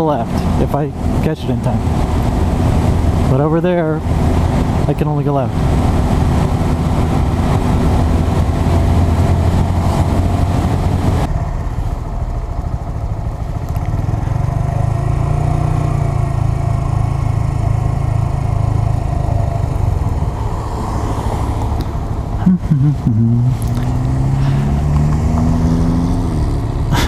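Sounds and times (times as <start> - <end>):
wind rushing over microphone: 0.0 - 26.9
motorcycle engine running: 0.0 - 27.0.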